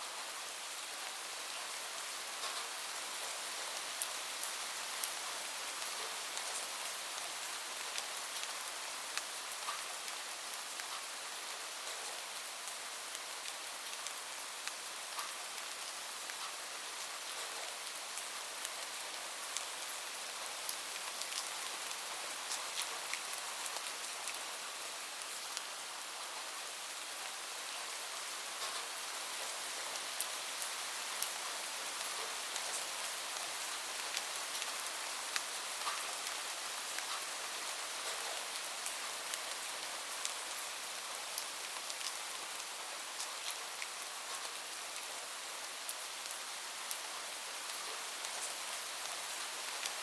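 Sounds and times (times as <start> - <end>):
raindrops ticking on a surface: 2.3 - 50.0.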